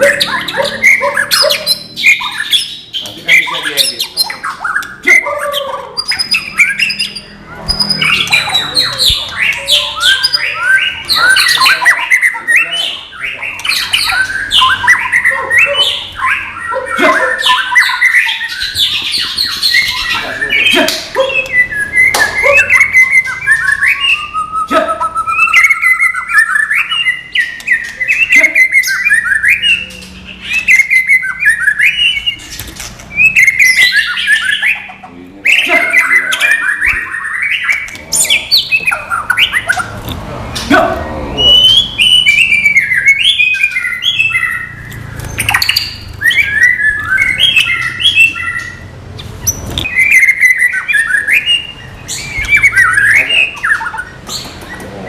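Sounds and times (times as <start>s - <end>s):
songbird singing varied song: 0.0s - 40.0s, 40.6s - 55.0s.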